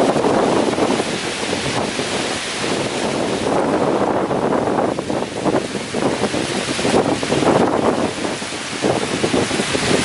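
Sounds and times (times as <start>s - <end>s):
heavy rain lashing trees: 0.0s - 10.0s
strong wind: 0.0s - 10.0s.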